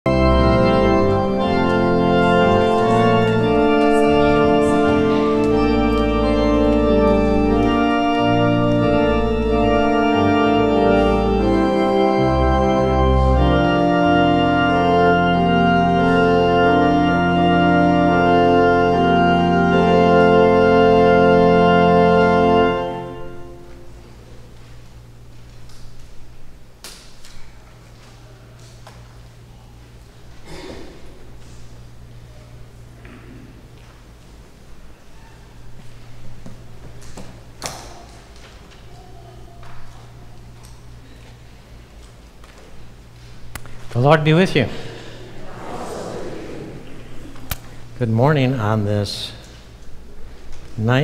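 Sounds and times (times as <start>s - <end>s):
organ playing slow chords: 0.0s - 27.1s, 27.9s - 51.0s.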